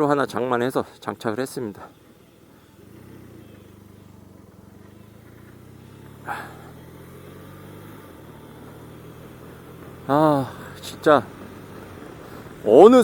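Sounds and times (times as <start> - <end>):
motorcycle engine running: 1.2 - 13.0.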